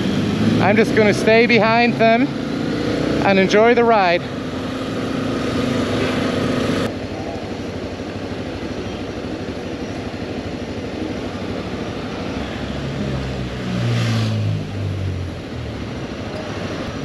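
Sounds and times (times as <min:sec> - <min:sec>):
deep engine drone: 0:00.0 - 0:17.0
motorcycle engine running: 0:00.0 - 0:17.0
pitched drone: 0:00.0 - 0:17.0
road and wind noise: 0:00.0 - 0:17.0.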